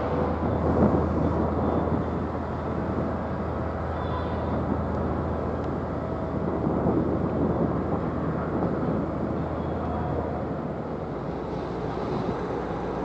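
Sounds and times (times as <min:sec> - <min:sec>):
ship engine rumble: 0:00.0 - 0:13.0.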